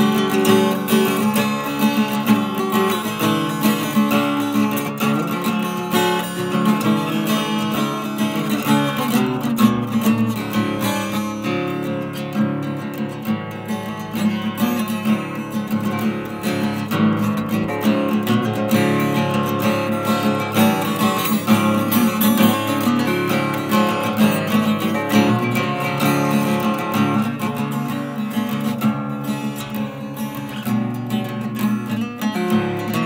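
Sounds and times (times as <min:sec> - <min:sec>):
acoustic guitar chords: 0:00.0 - 0:33.0.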